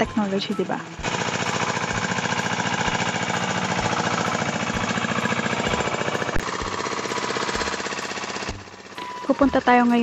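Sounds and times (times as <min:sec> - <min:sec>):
hand tractor engine chugging: 0:00.0 - 0:10.0.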